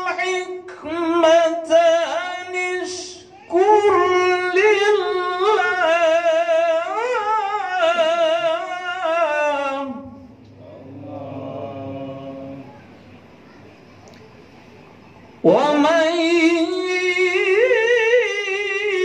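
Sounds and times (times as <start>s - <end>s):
man reciting melodically: 0.0s - 12.8s, 15.4s - 19.0s.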